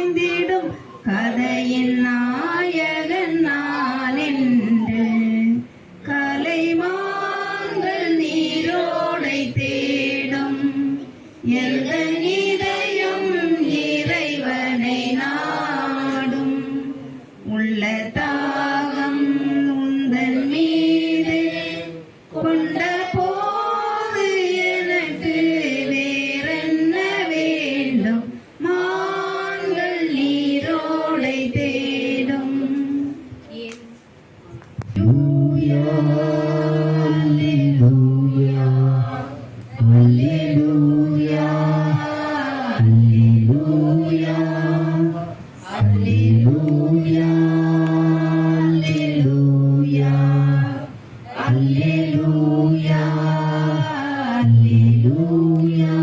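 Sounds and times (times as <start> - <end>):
voices singing a psalm: 0.0 - 33.7, 34.8 - 56.0.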